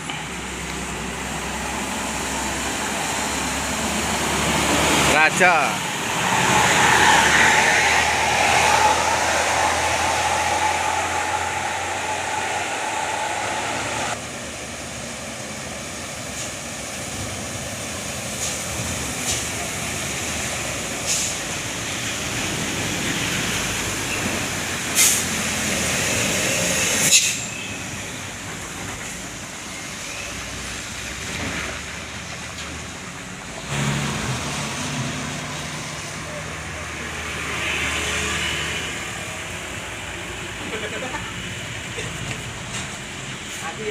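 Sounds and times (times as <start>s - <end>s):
heavy road traffic: 0.0s - 43.9s.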